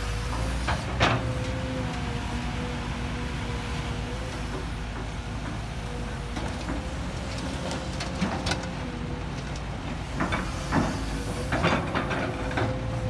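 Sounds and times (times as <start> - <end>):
excavator engine running: 0.0 - 13.0
excavator clanks and knocks: 0.1 - 2.2, 4.0 - 13.0.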